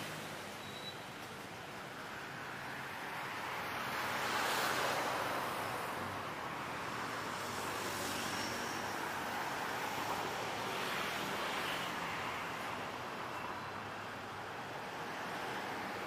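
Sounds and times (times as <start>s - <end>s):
road traffic hiss: 0.0s - 16.0s.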